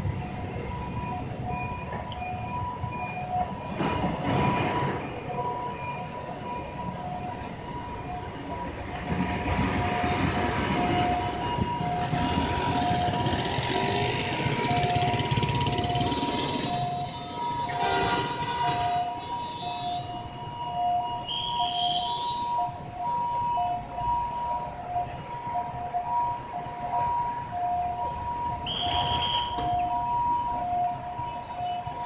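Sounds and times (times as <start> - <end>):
scooters and cars traffic: 0.0 - 32.0.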